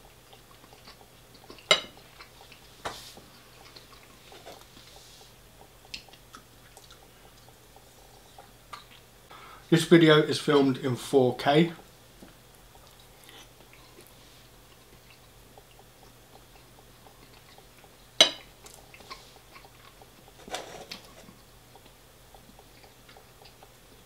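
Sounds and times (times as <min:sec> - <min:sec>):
faint chewing: 0:00.0 - 0:09.1, 0:12.2 - 0:24.0.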